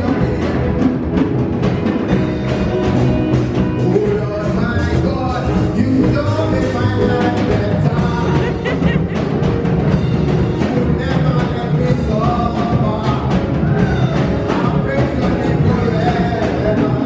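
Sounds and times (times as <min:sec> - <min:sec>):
person singing: 0:00.0 - 0:01.2, 0:03.7 - 0:09.6, 0:10.4 - 0:17.0
upbeat music with drums: 0:00.0 - 0:17.0.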